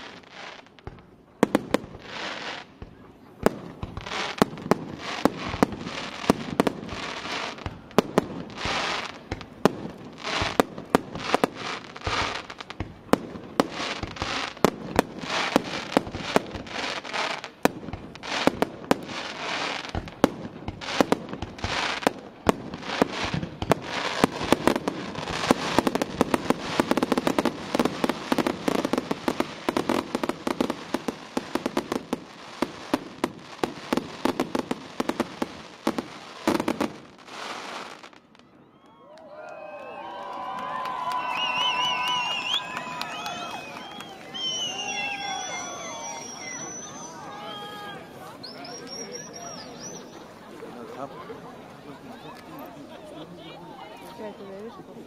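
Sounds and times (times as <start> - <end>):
fireworks crackling: 0.0 - 55.0.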